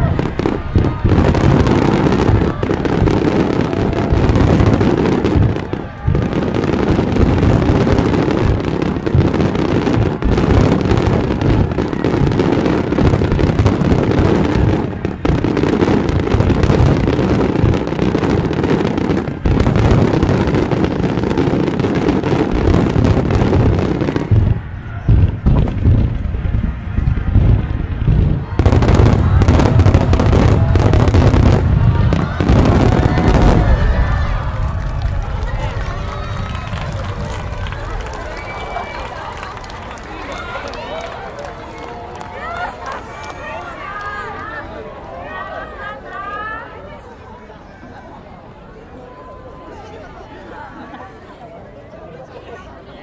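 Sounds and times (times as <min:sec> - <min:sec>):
fireworks bursts and bangs: 0:00.0 - 0:44.5.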